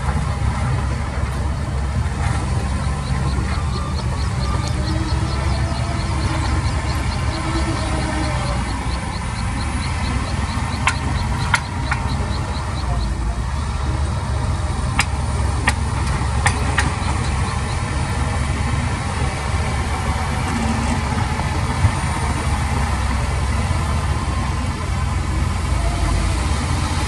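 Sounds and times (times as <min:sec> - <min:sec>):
fast high ticking: 0:00.0 - 0:26.0
diesel engine rumbling: 0:00.0 - 0:27.0.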